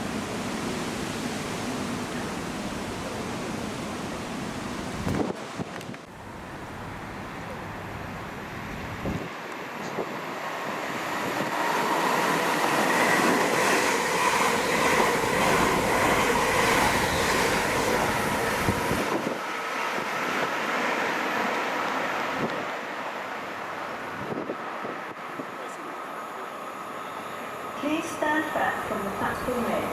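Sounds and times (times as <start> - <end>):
train passing at speed: 0.0 - 29.9.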